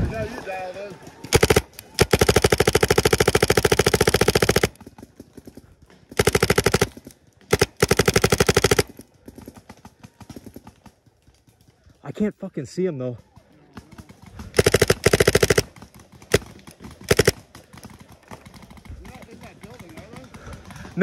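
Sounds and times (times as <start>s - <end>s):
paintball marker rapid shots: 1.2s - 11.5s, 13.8s - 21.0s.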